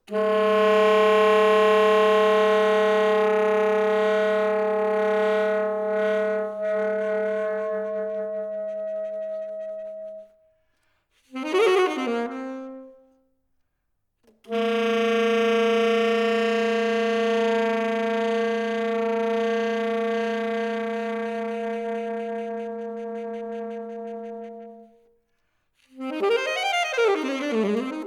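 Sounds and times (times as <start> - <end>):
solo saxophone playing: 0.0 - 10.3, 11.3 - 13.3, 14.4 - 25.2, 25.8 - 28.0.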